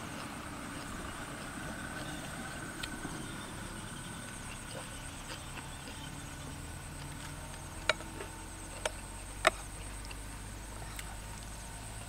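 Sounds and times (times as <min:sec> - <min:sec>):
person chewing food: 0:00.0 - 0:03.4, 0:04.3 - 0:11.6.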